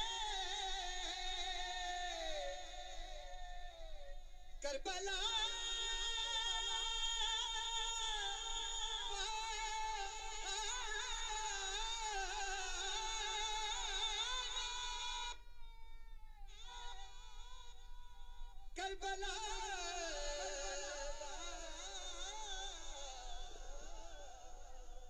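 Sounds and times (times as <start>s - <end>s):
man singing unaccompanied: 0.0s - 15.4s, 18.7s - 25.0s.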